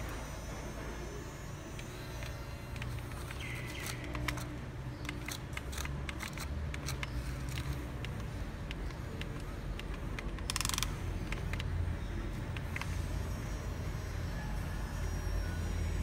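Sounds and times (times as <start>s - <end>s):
model excavator motor hum: 0.0s - 16.0s.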